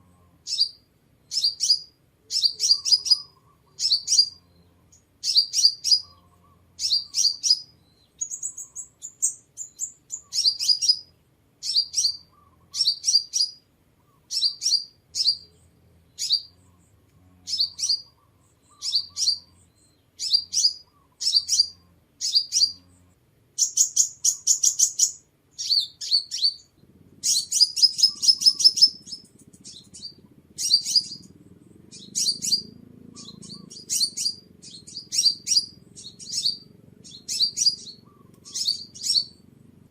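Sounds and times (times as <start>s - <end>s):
bird chirping: 0.0s - 39.9s
rapid bird trills: 0.0s - 39.9s.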